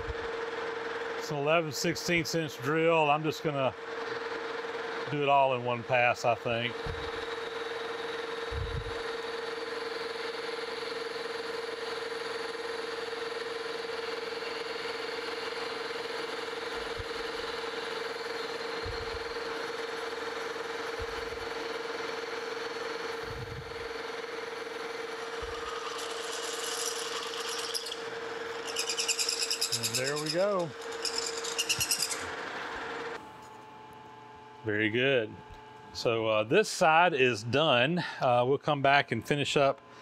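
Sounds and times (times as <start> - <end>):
drill boring through cast iron: 0.0 - 33.2
metal lathe humming: 0.0 - 33.5.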